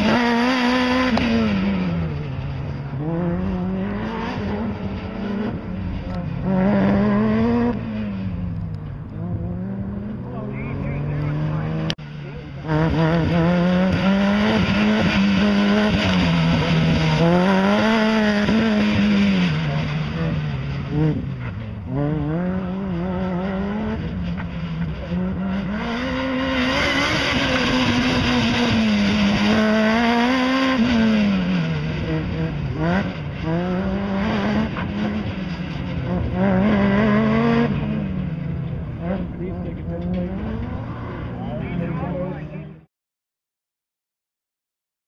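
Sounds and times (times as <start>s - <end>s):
car engine revving hard: 0.0s - 8.4s, 9.2s - 42.1s.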